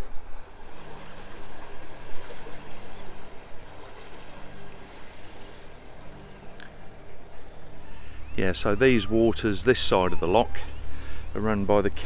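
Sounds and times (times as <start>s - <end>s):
low hum: 0.0s - 12.0s
water rushing and churning: 0.0s - 12.0s.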